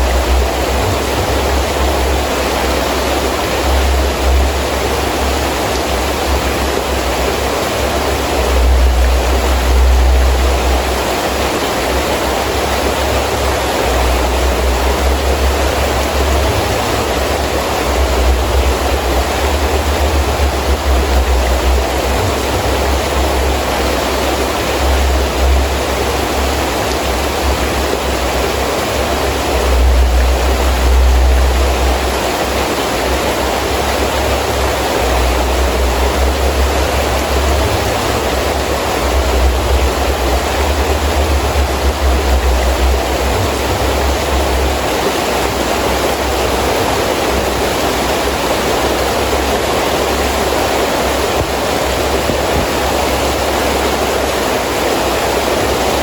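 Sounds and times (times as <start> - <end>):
deep rumble: 0.0 - 46.7
heavy rain falling: 0.0 - 56.0
wind gusts: 0.0 - 56.0.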